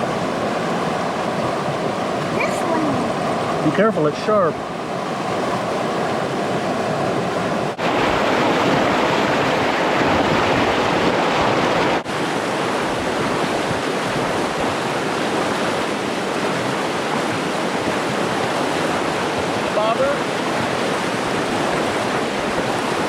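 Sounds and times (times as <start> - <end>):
river rushing: 0.0 - 23.0.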